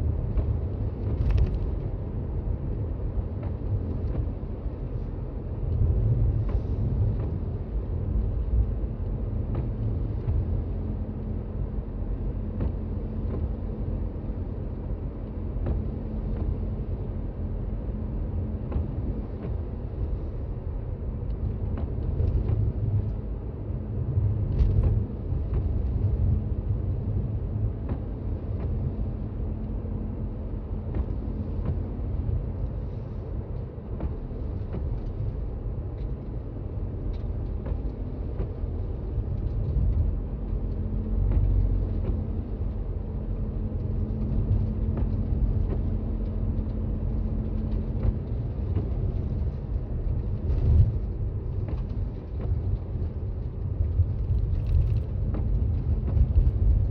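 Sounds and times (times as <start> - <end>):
car cabin road rumble: 0.0 - 56.9.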